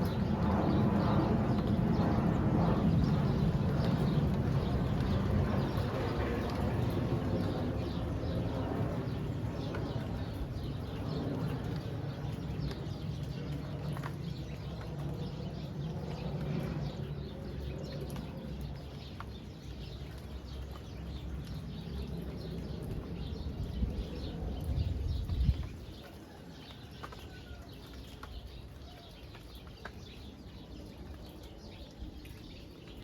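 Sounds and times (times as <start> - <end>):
rain drops ticking: 3.0 - 33.0.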